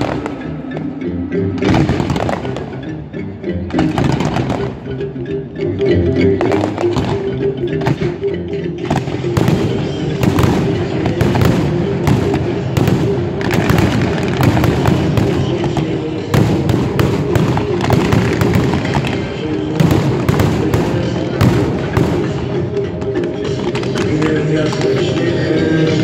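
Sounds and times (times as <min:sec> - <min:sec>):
fireworks bangs and crackles: 0:00.0 - 0:00.8, 0:01.6 - 0:02.9, 0:03.8 - 0:04.9, 0:06.4 - 0:08.2, 0:08.8 - 0:25.3
music playing: 0:00.0 - 0:26.0.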